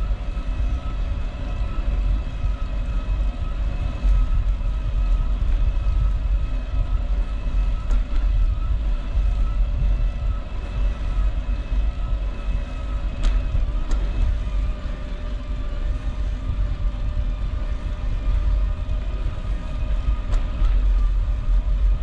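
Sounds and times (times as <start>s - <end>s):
faint steady whine: 0.0s - 22.0s
wind buffeting microphone: 0.0s - 22.0s.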